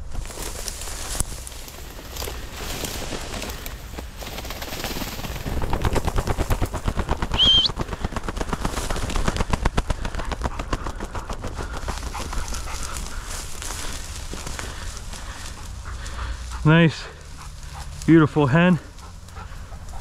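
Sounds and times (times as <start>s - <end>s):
pheasant wings fluttering: 0.1s - 16.5s.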